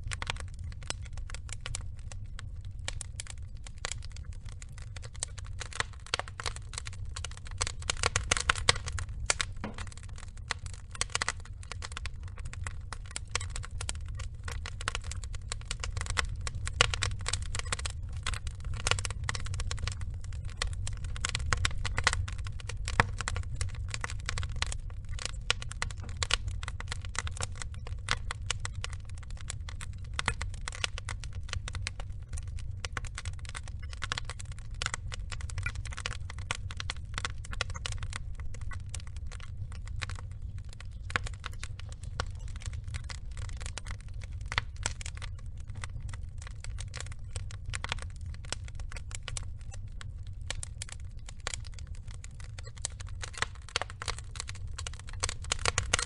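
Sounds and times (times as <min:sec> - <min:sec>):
low rumble: 0:00.0 - 0:53.4
burning logs crackling: 0:00.0 - 0:56.0
fire popping and snapping: 0:00.0 - 0:56.0.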